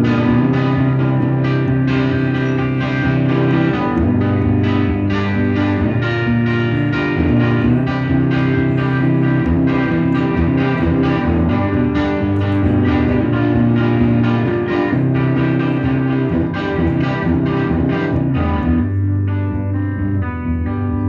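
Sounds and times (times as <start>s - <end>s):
guitar chords strummed: 0.0s - 21.0s.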